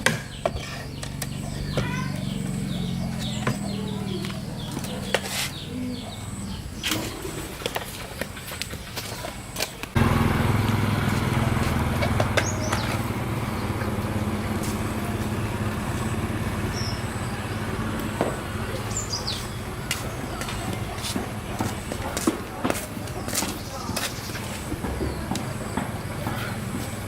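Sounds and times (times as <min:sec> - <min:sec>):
bird chirps: 0:00.0 - 0:07.6, 0:11.1 - 0:22.2, 0:23.0 - 0:27.0
engine humming: 0:00.0 - 0:27.0.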